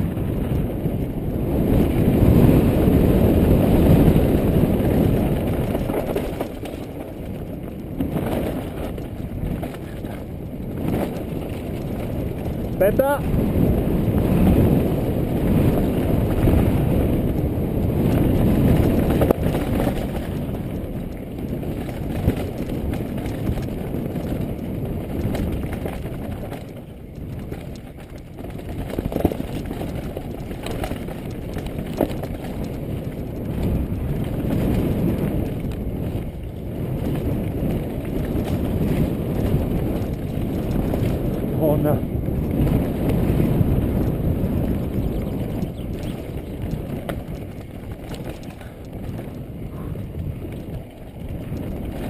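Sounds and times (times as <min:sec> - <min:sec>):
bike tyres rattling on gravel: 0:00.0 - 0:52.0.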